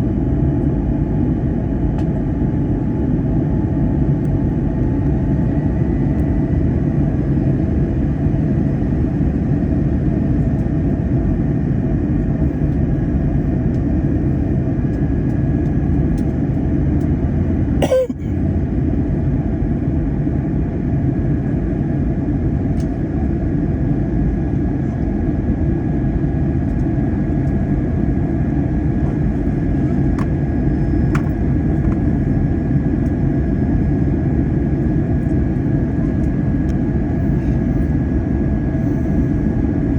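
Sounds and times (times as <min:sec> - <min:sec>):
airplane engines rumbling in cabin: 0:00.0 - 0:39.9.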